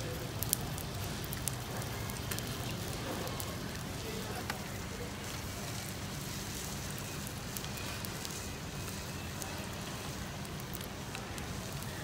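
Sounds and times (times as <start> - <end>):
sea snails sizzling on coals: 0.0 - 12.0.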